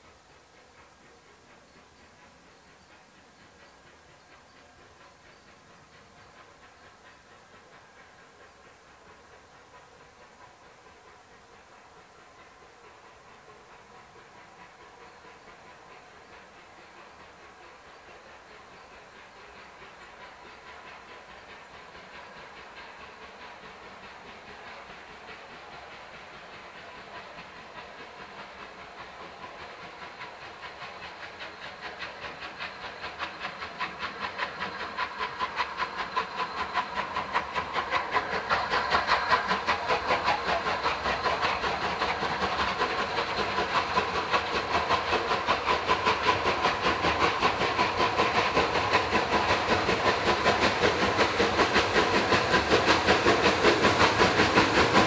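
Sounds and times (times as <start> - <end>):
steam hissing: 0.0 - 55.0
steam locomotive exhaust beats: 0.0 - 55.0.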